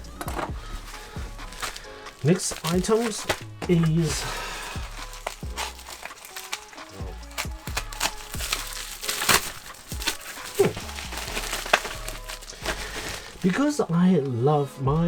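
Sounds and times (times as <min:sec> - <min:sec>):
plastic packaging crinkling: 0:00.0 - 0:14.0
background music: 0:00.0 - 0:15.0.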